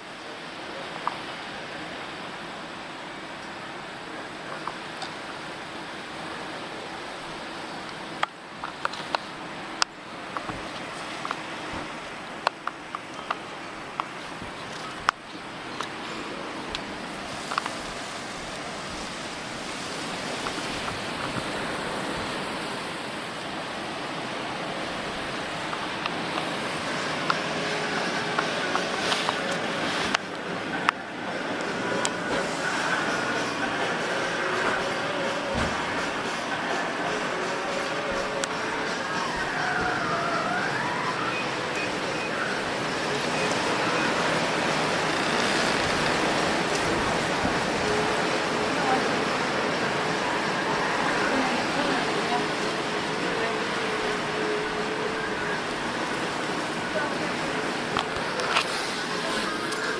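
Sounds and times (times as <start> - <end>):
blizzard wind rushing: 0.0 - 59.9.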